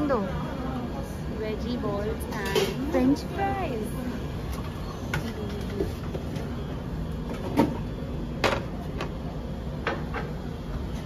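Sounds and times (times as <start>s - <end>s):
canteen background din: 0.0s - 11.0s.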